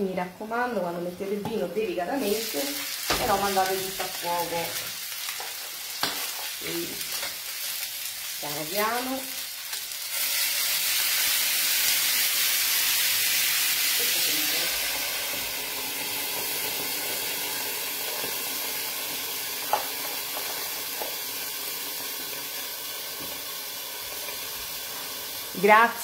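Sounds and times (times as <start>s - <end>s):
fish sizzling in a pan: 2.1s - 26.0s.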